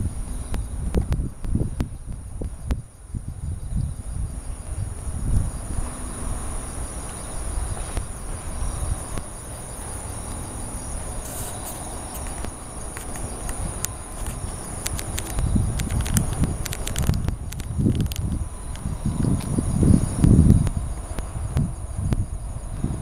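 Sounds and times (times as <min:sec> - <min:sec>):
crickets chirping: 0:00.0 - 0:23.0
low uneven rumble: 0:00.0 - 0:23.0.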